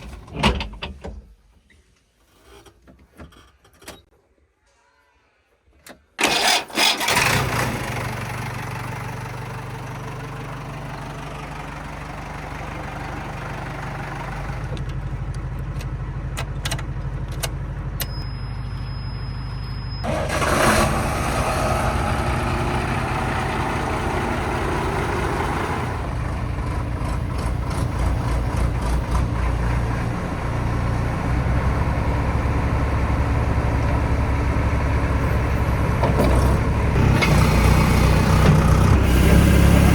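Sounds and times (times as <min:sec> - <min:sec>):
heavy diesel engine running: 0:06.2 - 0:39.9.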